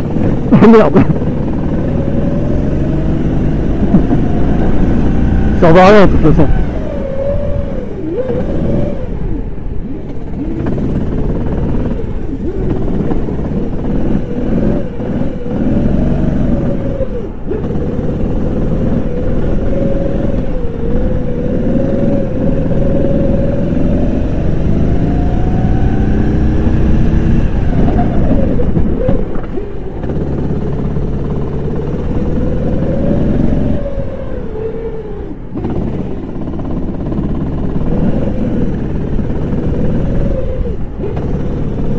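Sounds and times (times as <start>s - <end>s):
go-kart engine at racing speed: 0.0s - 41.9s.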